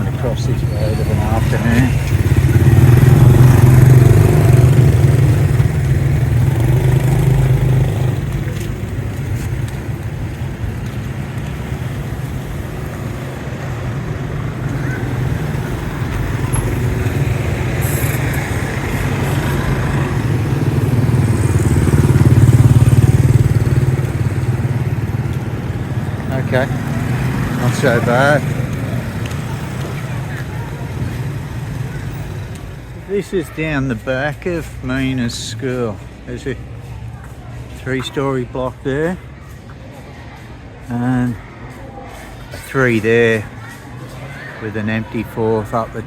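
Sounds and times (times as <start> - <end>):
road traffic passing: 0.0 - 46.0.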